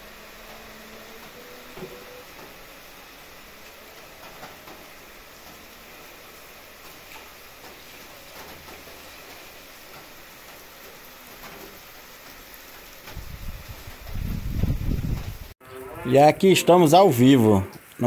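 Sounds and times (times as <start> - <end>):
rain falling: 0.0 - 18.0
raindrop ticks: 0.4 - 15.3, 17.7 - 18.0.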